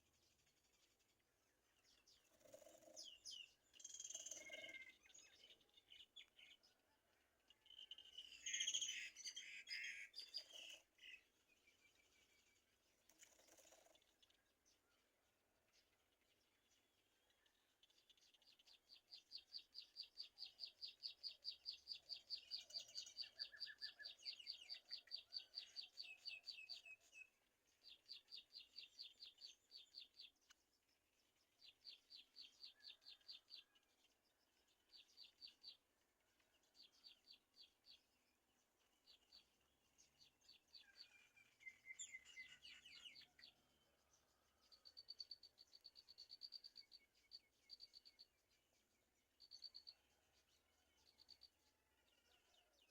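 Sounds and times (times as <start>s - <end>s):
bird chirping: 0.0s - 6.8s, 7.4s - 15.1s, 15.7s - 52.9s.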